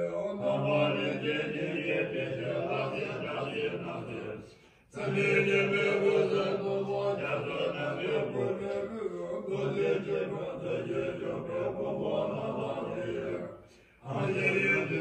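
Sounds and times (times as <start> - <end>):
men chanting low notes: 0.0 - 15.0.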